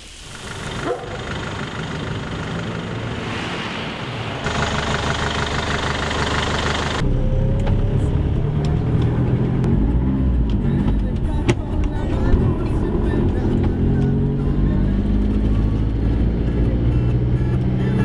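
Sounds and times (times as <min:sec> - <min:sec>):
van engine driving off: 0:00.3 - 0:03.3, 0:04.4 - 0:17.0
rising engine whine: 0:00.3 - 0:10.7, 0:12.1 - 0:17.6.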